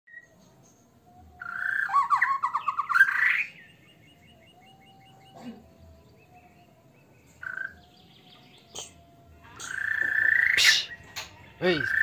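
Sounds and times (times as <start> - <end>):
bird singing whistles and trills: 0.1 - 12.0.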